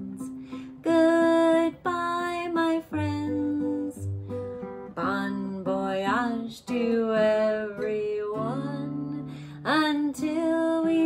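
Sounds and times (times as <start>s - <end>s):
person singing: 0.0s - 4.1s, 5.0s - 11.0s
acoustic guitar strumming: 0.0s - 11.0s.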